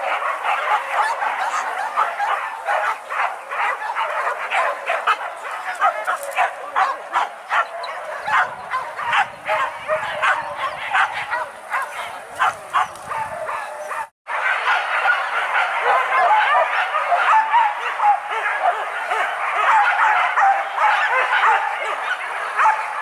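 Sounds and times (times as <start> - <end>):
dogs yelping and barking: 0.0 - 23.0.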